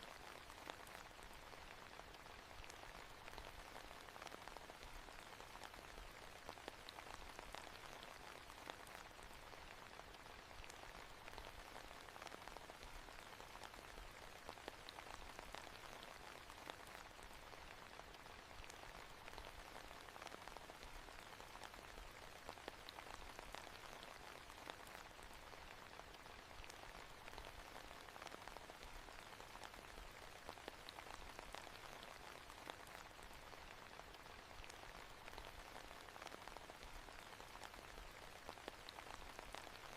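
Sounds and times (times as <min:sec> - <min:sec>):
soft rain hiss: 0:00.0 - 0:39.9.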